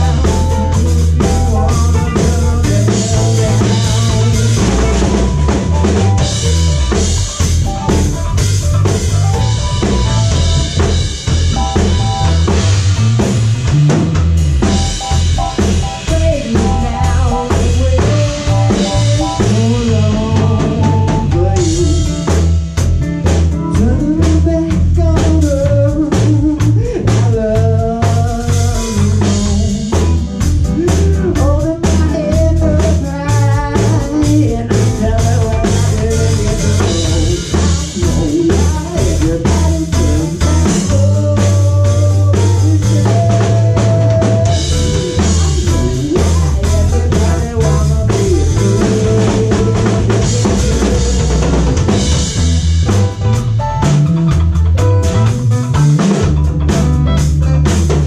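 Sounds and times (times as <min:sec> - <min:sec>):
person singing: 0:00.0 - 0:12.6, 0:14.6 - 0:22.6, 0:23.5 - 0:52.4
bass guitar: 0:00.0 - 0:58.0
drum kit: 0:00.0 - 0:58.0
electric guitar: 0:00.0 - 0:58.0
keyboard: 0:00.0 - 0:58.0.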